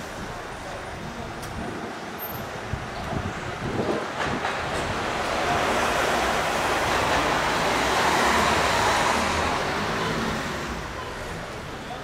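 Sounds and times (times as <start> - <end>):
passing road vehicle: 0.0 - 12.0.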